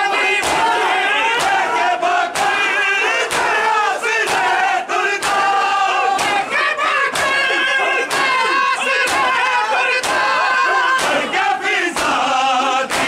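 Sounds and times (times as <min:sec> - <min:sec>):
men chanting together: 0:00.0 - 0:13.0
hands slapping chests: 0:00.4 - 0:13.0.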